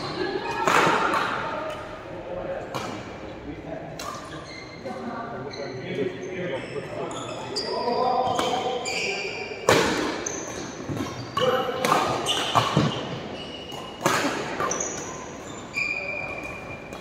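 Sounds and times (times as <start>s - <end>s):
court shoes squeaking: 0.0s - 2.0s, 4.0s - 17.0s.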